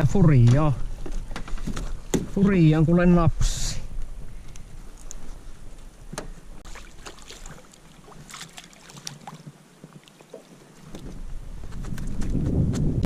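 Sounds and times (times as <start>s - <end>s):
small clicks and knocks in boat: 0.4s - 2.6s, 4.0s - 13.0s.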